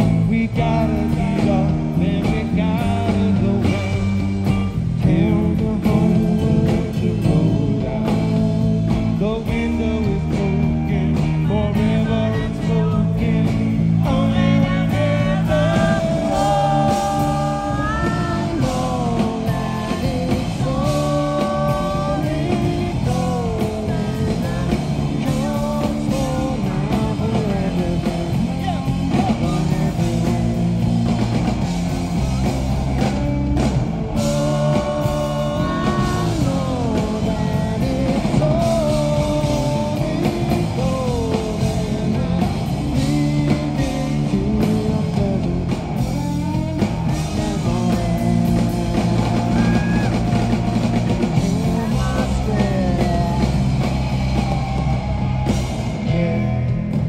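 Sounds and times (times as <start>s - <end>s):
bass guitar: 0.0s - 57.0s
electric guitar: 0.0s - 57.0s
person singing: 0.0s - 57.0s.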